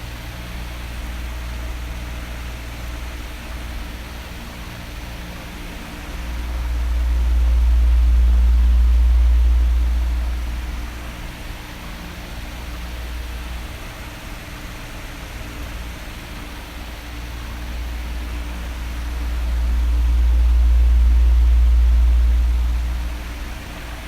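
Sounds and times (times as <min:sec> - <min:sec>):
oscillating electric fan: 0:00.0 - 0:24.0.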